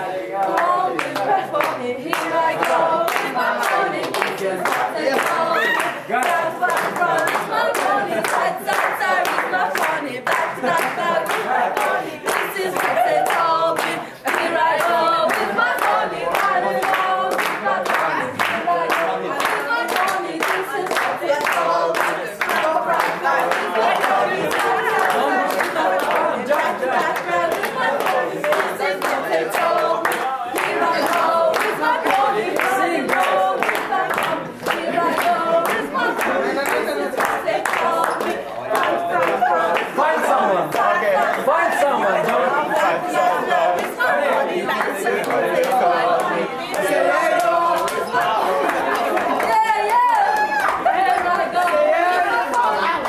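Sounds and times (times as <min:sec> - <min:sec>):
group of voices singing: 0:00.0 - 0:53.0
hand clapping on the beat: 0:00.0 - 0:53.0.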